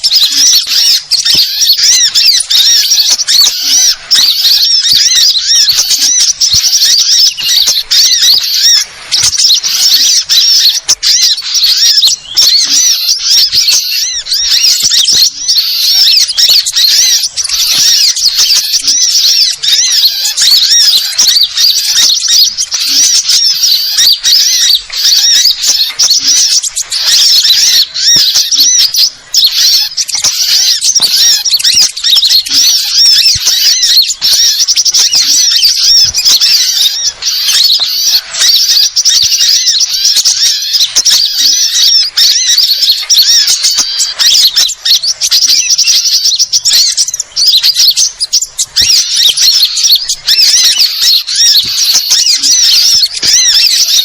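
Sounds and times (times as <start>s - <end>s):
chorus of small birds chattering: 0.0s - 54.0s.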